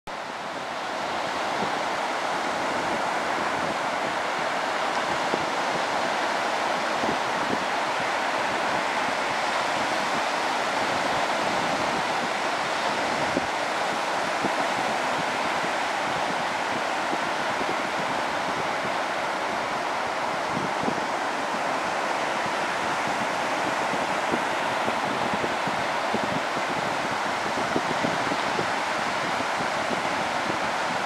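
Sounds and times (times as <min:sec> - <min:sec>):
waves washing up a beach: 0:00.1 - 0:31.0.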